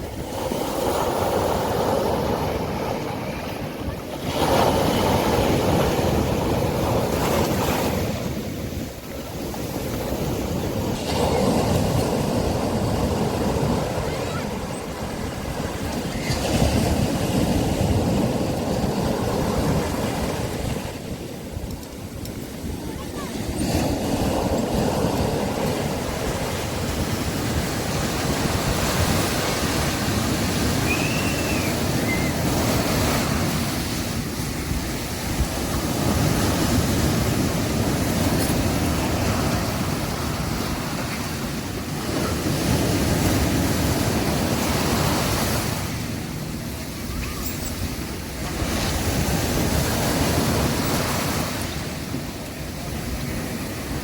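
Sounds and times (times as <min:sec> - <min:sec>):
sea waves breaking on a beach: 0:00.0 - 0:54.0.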